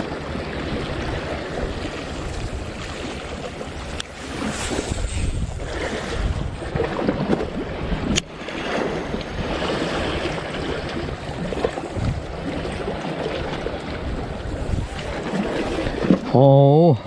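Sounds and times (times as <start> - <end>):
wind buffeting microphone: 0.0 - 16.6
waves breaking and washing: 0.0 - 17.0.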